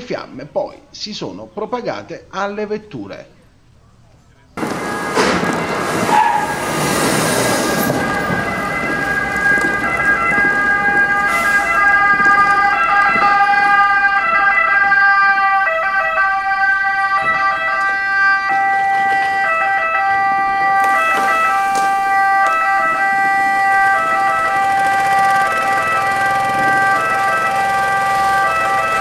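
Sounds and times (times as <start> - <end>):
passing vehicle rush: 4.6 - 29.0
two-tone fire sirens: 4.6 - 29.0.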